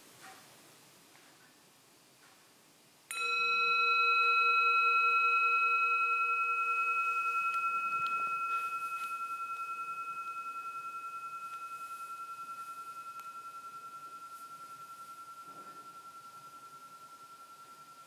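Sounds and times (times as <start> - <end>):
metal singing bowl ringing: 3.1 - 18.0.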